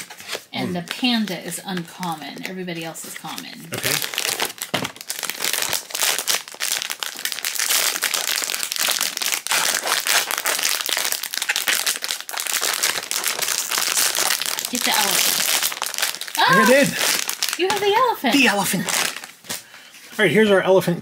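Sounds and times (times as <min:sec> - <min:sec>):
foil bag crinkling: 0:00.0 - 0:19.6.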